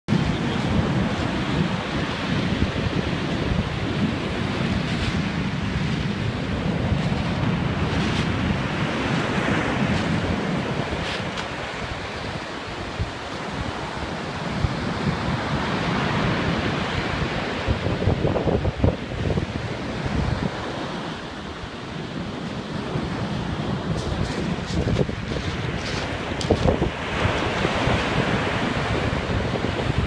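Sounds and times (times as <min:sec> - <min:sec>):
sea waves washing: 0:00.1 - 0:30.0
wind buffeting microphone: 0:00.1 - 0:30.0.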